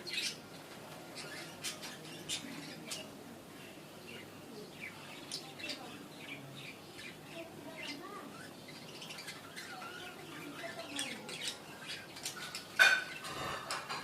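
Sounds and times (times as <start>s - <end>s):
budgerigars chirping and chattering: 0.0s - 3.3s, 4.0s - 14.0s.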